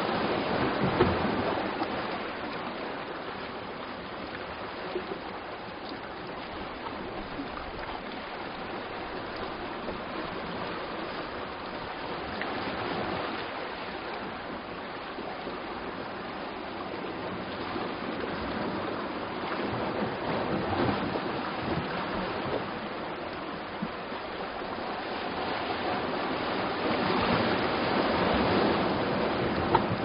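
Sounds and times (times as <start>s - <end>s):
sea waves washing on shore: 0.0s - 30.0s.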